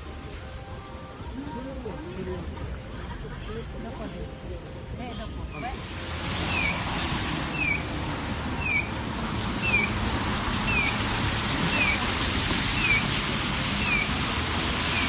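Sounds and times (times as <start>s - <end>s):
traffic on wet street: 0.0s - 15.0s.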